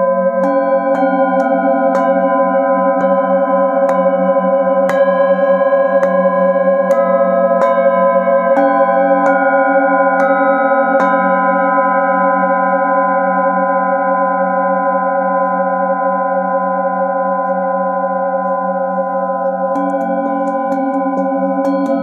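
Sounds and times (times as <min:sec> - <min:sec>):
bowl tones ringing: 0:00.0 - 0:22.0
singing bowls struck with mallet: 0:00.0 - 0:22.0.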